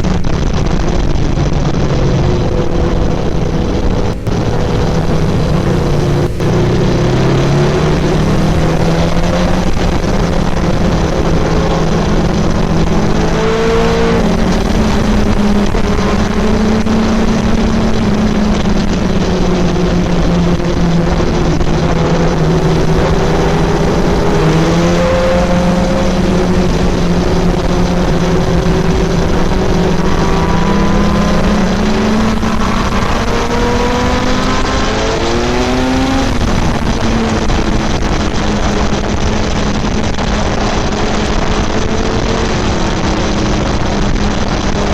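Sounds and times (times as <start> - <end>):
motorcycle engine running: 0.0 - 44.9
wind and road noise: 0.0 - 44.9.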